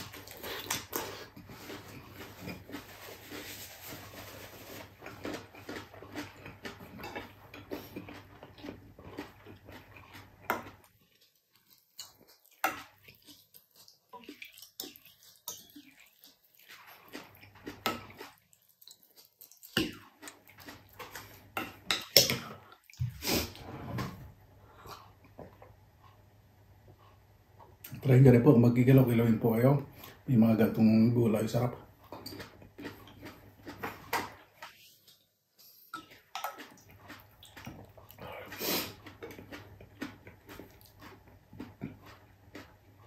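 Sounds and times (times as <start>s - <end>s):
chewing: 0.0s - 23.7s, 31.6s - 43.0s.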